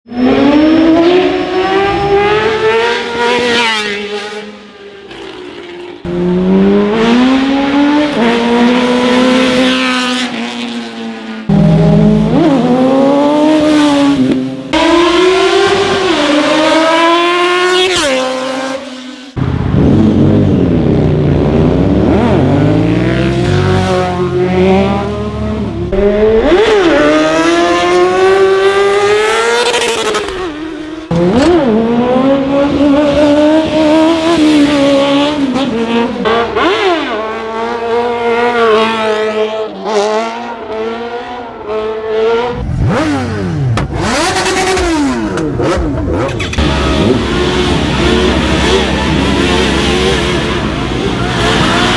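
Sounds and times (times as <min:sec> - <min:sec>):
motorcycle engines revving past: 0:00.2 - 0:51.9.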